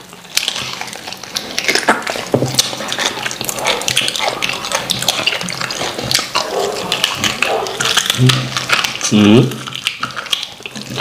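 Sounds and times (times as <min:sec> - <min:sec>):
wet chewing and lip smacking: 0:00.0 - 0:11.0.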